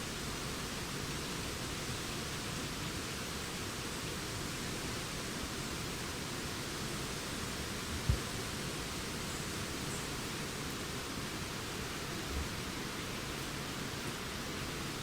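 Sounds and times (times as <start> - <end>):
wind through leaves: 0.0 - 15.0.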